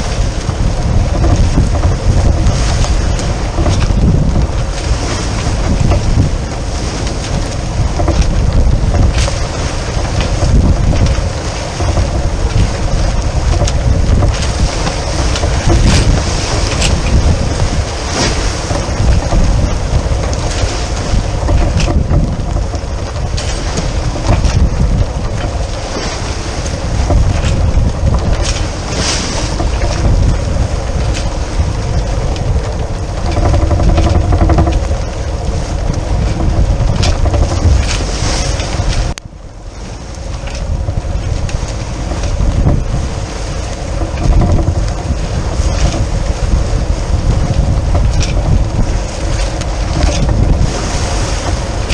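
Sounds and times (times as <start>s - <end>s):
dense rushing noise: 0.0s - 51.9s
wind buffeting microphone: 0.0s - 51.9s.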